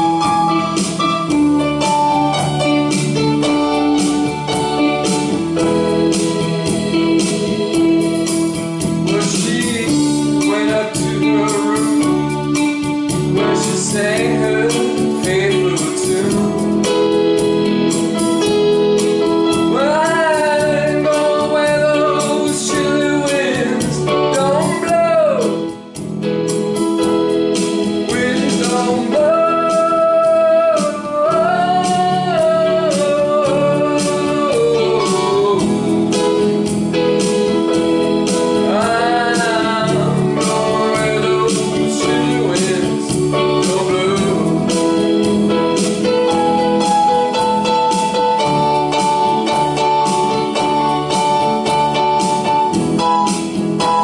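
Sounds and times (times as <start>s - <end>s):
person singing: 0.0s - 26.0s, 28.0s - 54.0s
organ-like keyboard chords: 0.0s - 54.0s
rock band music: 0.0s - 54.0s.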